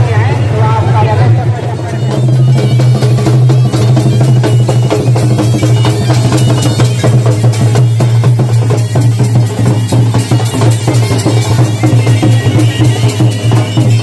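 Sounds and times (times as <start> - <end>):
fast loud drumming: 0.3 - 14.0.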